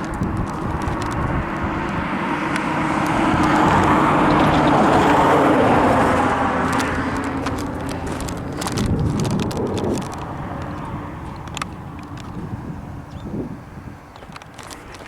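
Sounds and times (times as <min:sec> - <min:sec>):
vehicle passing by: 0:00.0 - 0:13.5.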